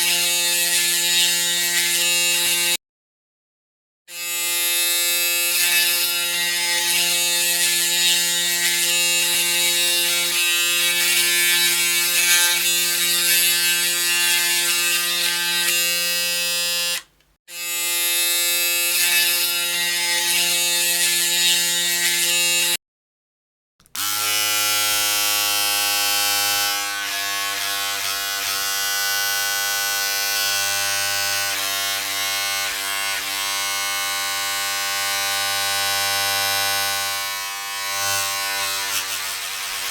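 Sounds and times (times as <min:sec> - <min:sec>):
electric shaver buzzing: 0:00.0 - 0:02.8, 0:04.1 - 0:22.8, 0:23.9 - 0:39.9.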